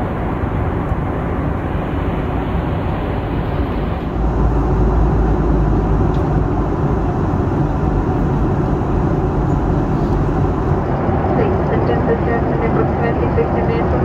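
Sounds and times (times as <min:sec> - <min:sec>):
airflow rush in cabin: 0:00.0 - 0:14.0
deep rumble: 0:00.0 - 0:14.0
jet engine noise: 0:00.0 - 0:14.0.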